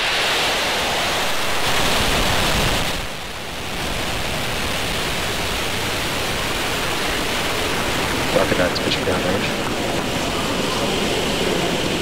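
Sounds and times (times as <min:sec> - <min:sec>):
rocket engines roaring: 0:00.0 - 0:12.0.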